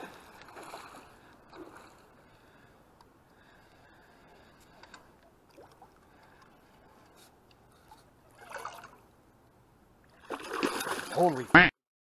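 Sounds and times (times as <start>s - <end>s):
water lapping against boat hull: 0.0s - 2.7s, 3.3s - 9.1s, 10.0s - 11.5s.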